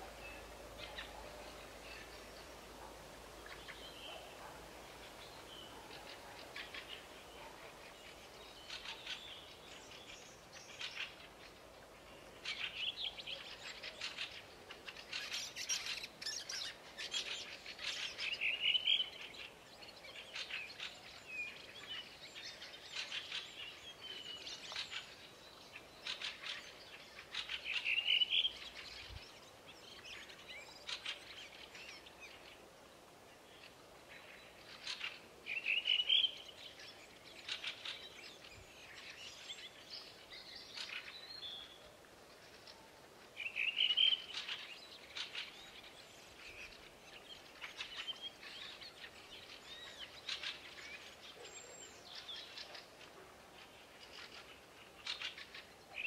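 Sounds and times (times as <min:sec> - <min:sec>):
birds chirping and trilling: 0:00.0 - 0:32.7, 0:33.3 - 0:56.0.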